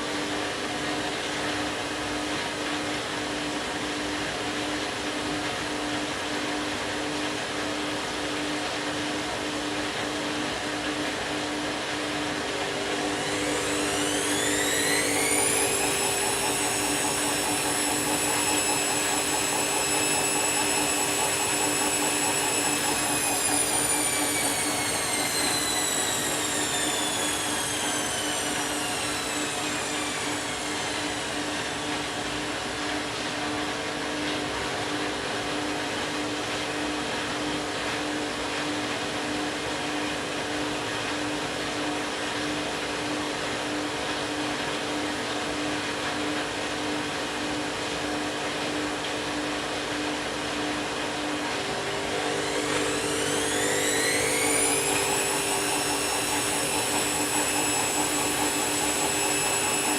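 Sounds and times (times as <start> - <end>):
washing machine spin whine: 0.0 - 59.9.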